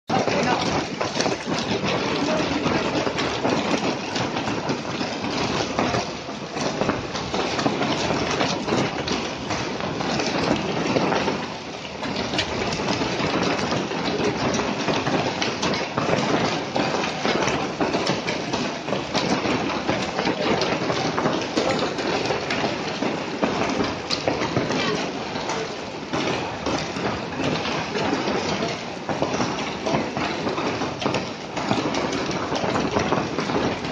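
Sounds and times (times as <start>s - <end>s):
hailstones clicking and tapping: 0.1s - 33.9s
heavy rain hiss: 0.1s - 33.9s.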